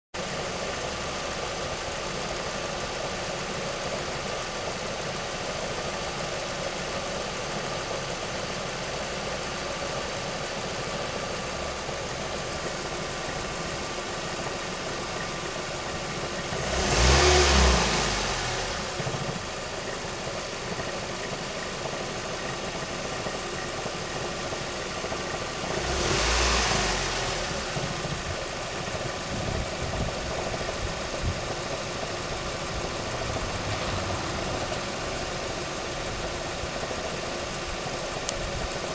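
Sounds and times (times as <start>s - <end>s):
car engine idling and revving: 0.2s - 38.9s.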